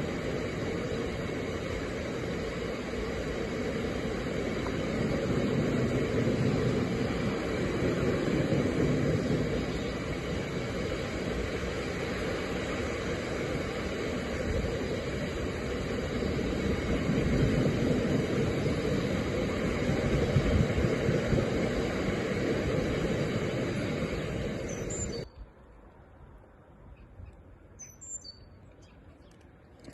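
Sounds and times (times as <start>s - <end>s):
diesel train rumbling past: 0.0s - 25.3s.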